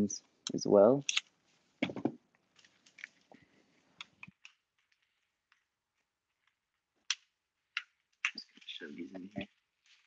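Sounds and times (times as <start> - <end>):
plastic magazines clicking and knocking: 1.1 - 10.0.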